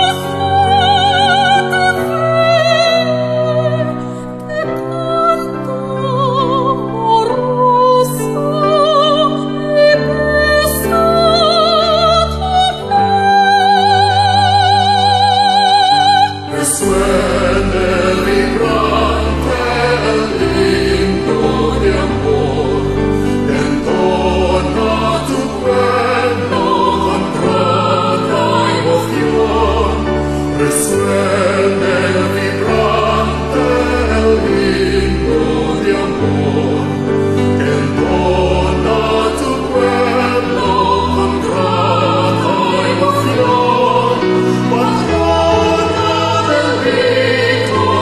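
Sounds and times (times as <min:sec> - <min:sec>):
choir singing: 0:00.0 - 0:48.0.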